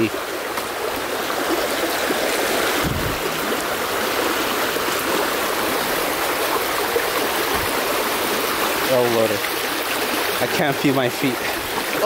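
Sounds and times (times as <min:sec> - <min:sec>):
stream water rushing over stones: 0:00.0 - 0:12.0.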